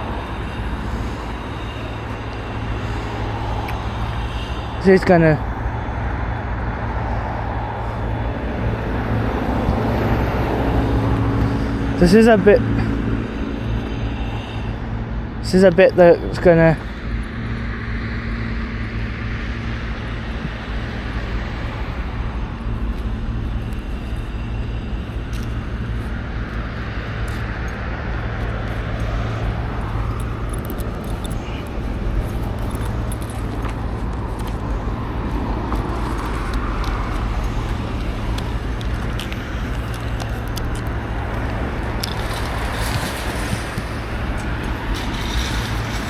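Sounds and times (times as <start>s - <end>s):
low hum: 0.0s - 46.0s
traffic rushing: 0.0s - 46.0s.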